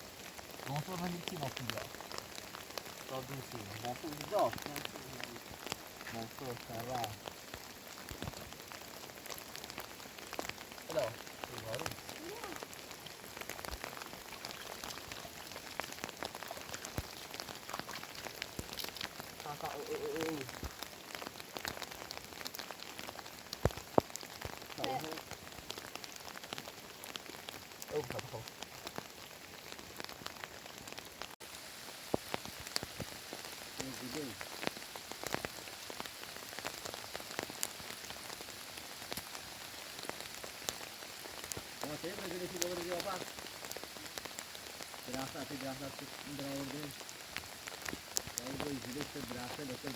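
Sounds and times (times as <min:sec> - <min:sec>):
heavy rain falling: 0:00.0 - 0:49.9
raindrops ticking: 0:00.0 - 0:49.9.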